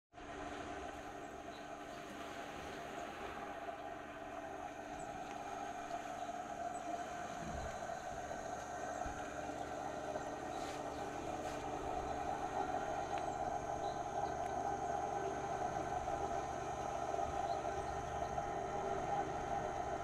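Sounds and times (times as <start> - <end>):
steady engine drone: 0.2 - 20.0.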